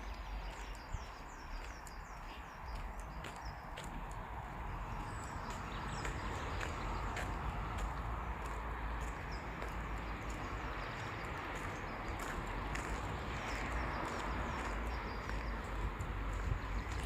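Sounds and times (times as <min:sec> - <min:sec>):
footsteps on forest path: 0:00.0 - 0:17.0
small birds chirping: 0:00.0 - 0:17.0.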